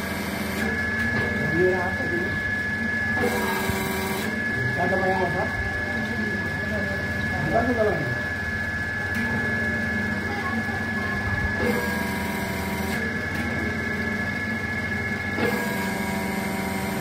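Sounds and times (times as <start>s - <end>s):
hydraulic pump motor whining: 0.0s - 17.0s.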